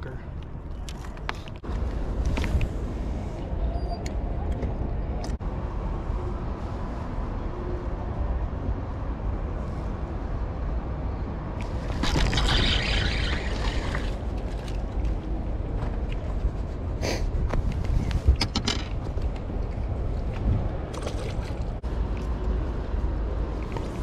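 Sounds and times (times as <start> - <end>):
wind on microphone: 4.6 - 24.0.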